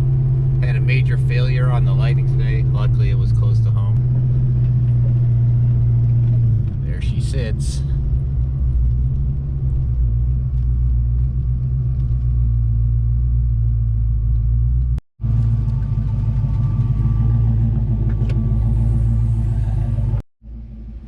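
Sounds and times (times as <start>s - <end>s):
motor vehicle running: 0.0s - 21.0s.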